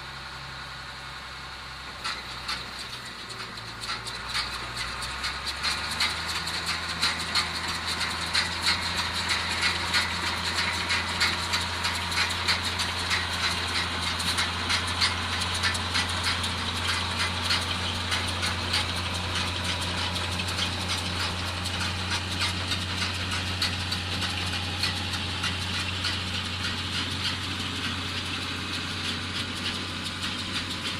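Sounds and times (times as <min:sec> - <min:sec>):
tractor diesel engine running: 0:00.0 - 0:30.9
dense clattering rattle: 0:02.0 - 0:30.9.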